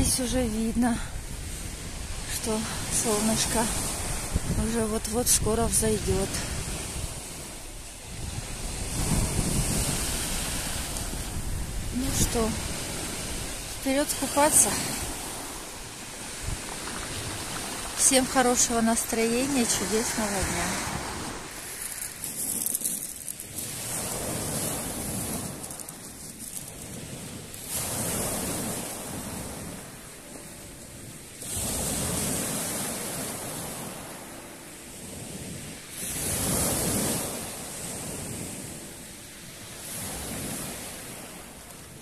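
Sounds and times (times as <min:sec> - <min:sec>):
waves washing up pebble beach: 0:00.0 - 0:42.0.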